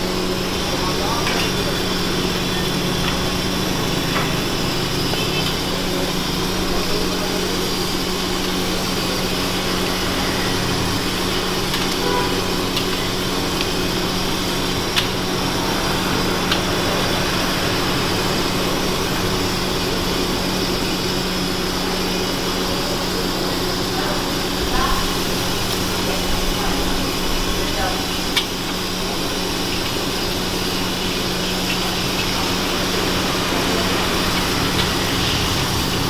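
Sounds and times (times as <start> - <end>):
mechanical hum with rushing: 0.0 - 36.0.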